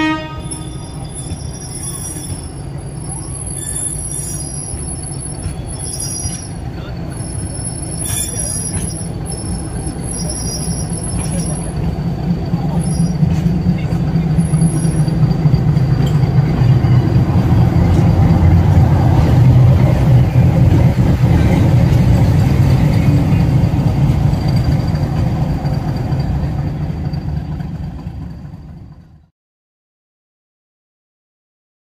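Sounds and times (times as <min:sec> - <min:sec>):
diesel locomotive engine rumble: 0:00.0 - 0:29.3.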